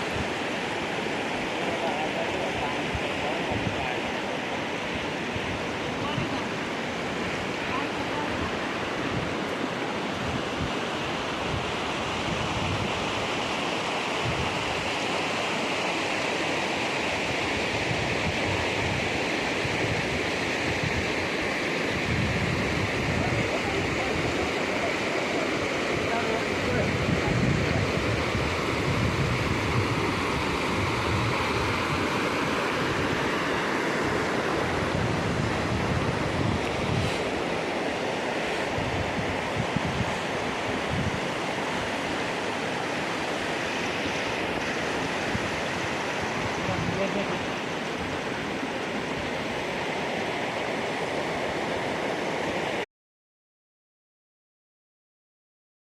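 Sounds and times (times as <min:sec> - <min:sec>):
fast-flowing water rushing: 0:00.0 - 0:52.8.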